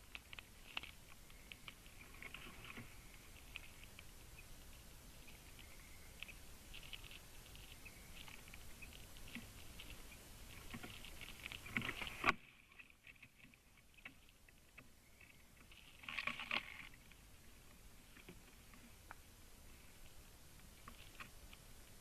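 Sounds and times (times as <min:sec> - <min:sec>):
raven clicking and knocking calls: 0:00.0 - 0:22.0.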